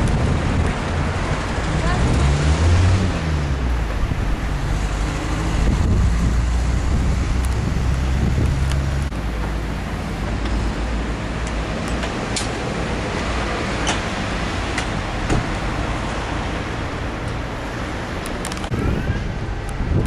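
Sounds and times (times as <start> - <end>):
street traffic noise: 0.0 - 20.0
wind rumbling on microphone: 0.0 - 20.0.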